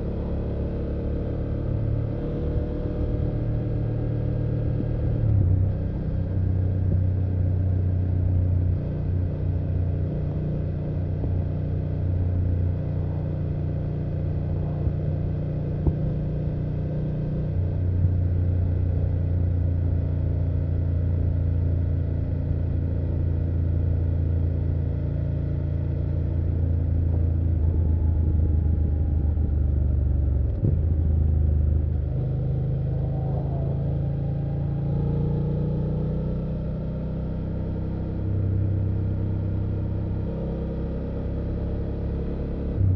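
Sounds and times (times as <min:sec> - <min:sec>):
motorcycle engine and exhaust: 0:00.0 - 0:42.9.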